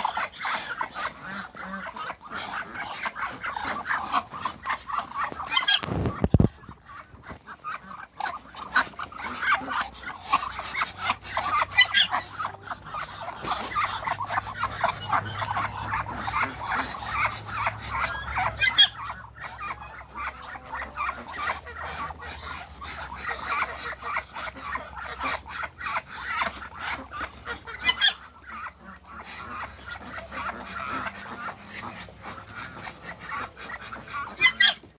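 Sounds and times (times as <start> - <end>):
ducks and poultry calling: 0.0 - 34.9.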